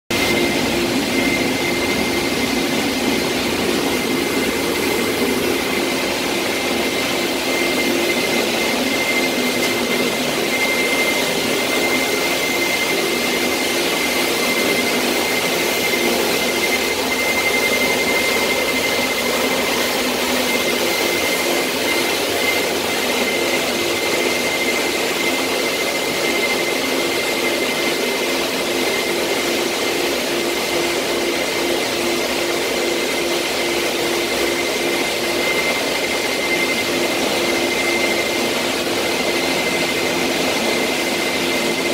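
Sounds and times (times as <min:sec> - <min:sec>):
concrete floor grinder whine: 0:00.1 - 0:41.9
steady rush of noise: 0:00.1 - 0:41.9.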